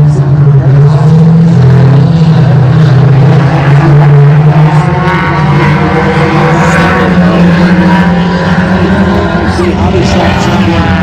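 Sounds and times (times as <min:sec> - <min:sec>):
higher engine note: 0:00.0 - 0:11.0
race car engines running: 0:00.0 - 0:11.0.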